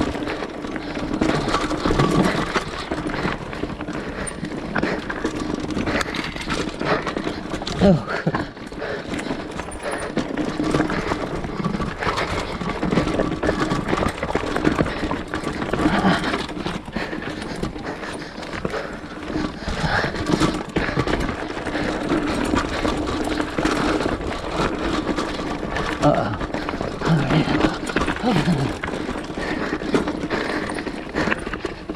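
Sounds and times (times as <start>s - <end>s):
rattling and knocking on rocky trail: 0.0s - 31.9s.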